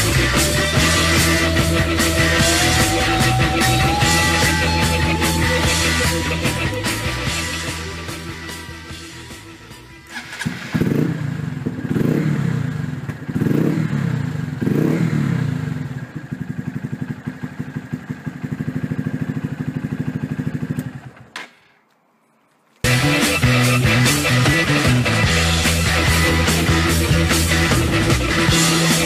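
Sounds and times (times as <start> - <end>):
motorcycle engine revving and idling: 0.0 - 21.3, 22.9 - 29.0.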